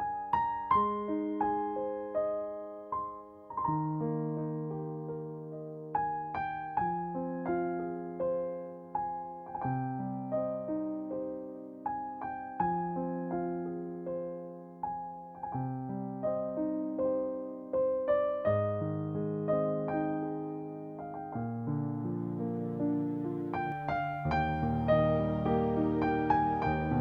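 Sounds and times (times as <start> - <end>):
gentle piano music: 0.0 - 27.0.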